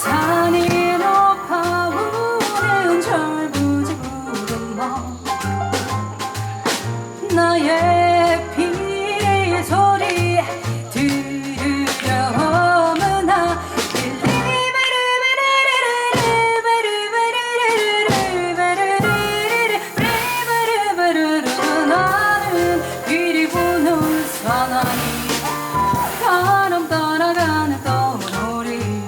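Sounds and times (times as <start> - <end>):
woman singing: 0.0 - 5.3, 7.2 - 29.0
double bass: 0.0 - 14.7, 18.1 - 29.0
drums: 0.0 - 15.0, 15.7 - 16.9, 17.6 - 29.0
piano: 0.0 - 16.7, 17.6 - 29.0.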